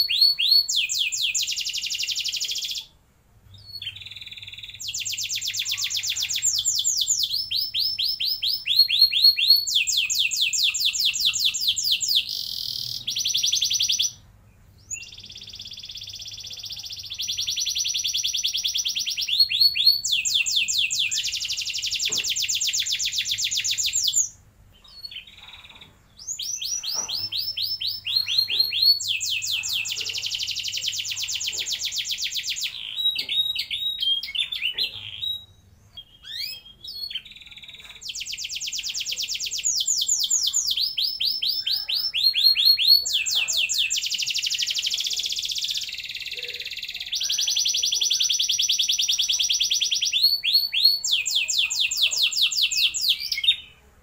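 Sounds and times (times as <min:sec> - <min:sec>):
canary singing rolling trills: 0:00.0 - 0:54.0.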